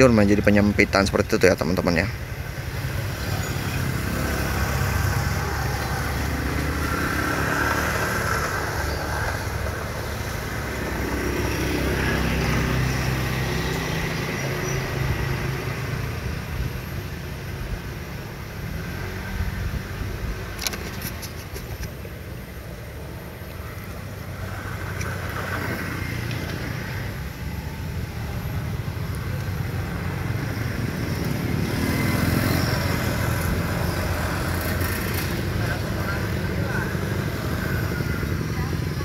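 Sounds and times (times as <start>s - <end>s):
road traffic humming: 0.0s - 39.0s.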